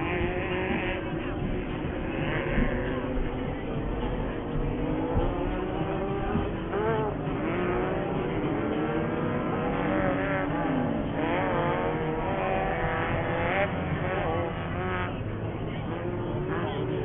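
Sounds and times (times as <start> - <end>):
buggy engines revving: 0.0 - 17.0.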